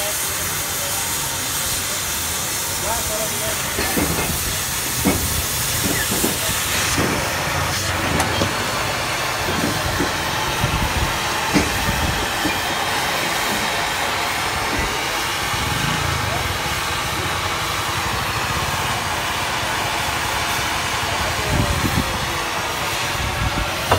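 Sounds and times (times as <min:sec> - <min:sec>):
cutting torch hissing: 0:00.0 - 0:23.9.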